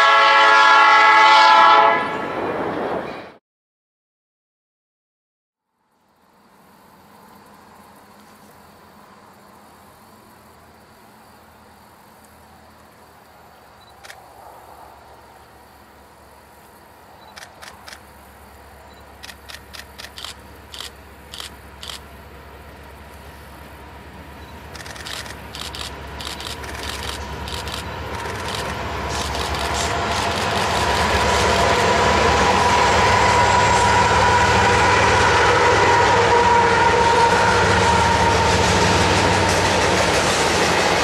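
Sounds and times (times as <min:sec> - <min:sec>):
freight train engine rumble: 0:00.0 - 0:03.4, 0:05.9 - 0:41.0.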